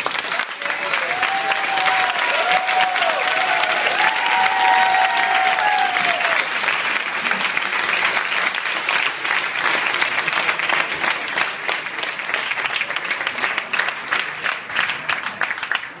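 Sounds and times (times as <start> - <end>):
crowd applauding: 0.0 - 16.0.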